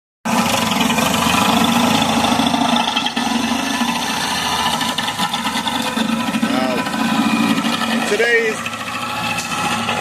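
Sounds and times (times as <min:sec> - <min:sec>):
grinding tree roots: 0:00.3 - 0:10.0
stump grinder engine running: 0:00.3 - 0:10.0.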